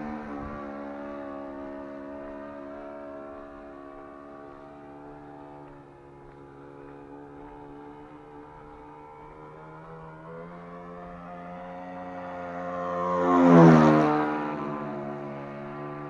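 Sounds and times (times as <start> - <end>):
model airplane engine running: 2.0 - 16.0.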